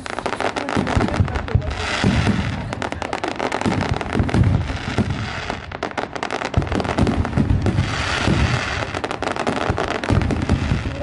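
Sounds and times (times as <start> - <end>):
fireworks cracking and popping: 0.0 - 11.0
fireworks low booms: 0.0 - 11.0.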